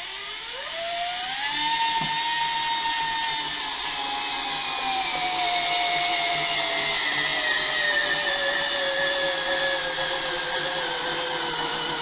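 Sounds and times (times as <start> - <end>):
electric screwdriver motor whining: 1.4 - 12.0.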